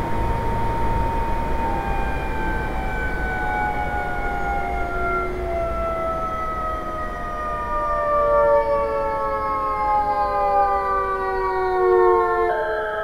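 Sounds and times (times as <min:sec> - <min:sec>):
train braking with whining tones: 0:00.0 - 0:13.0.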